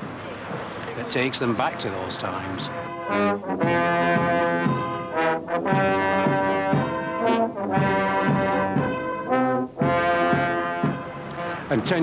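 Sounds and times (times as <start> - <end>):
brass band playing: 1.8 - 12.0.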